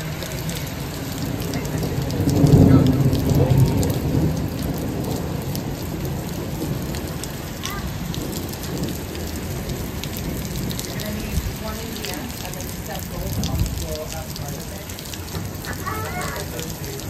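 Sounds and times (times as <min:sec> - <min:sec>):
heavy rain on wet paving: 0:00.0 - 0:17.0
low thunder rumble: 0:00.9 - 0:15.7.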